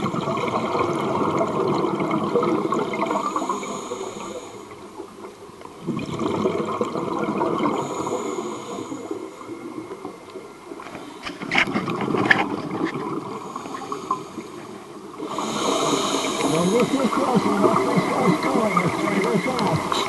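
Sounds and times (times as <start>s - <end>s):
air bubbles gurgling underwater: 0.0s - 10.8s, 11.6s - 20.0s.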